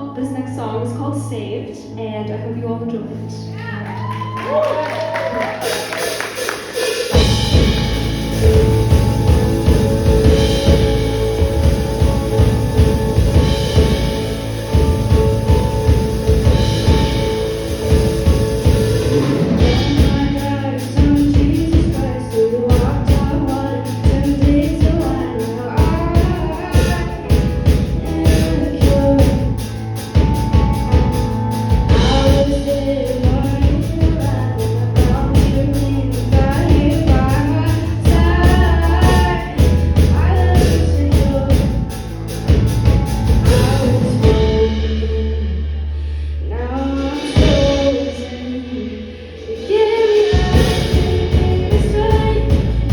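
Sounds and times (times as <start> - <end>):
bass: 0.0 - 52.9
drums keeping a steady beat: 4.9 - 45.2, 46.7 - 48.2, 48.8 - 52.9.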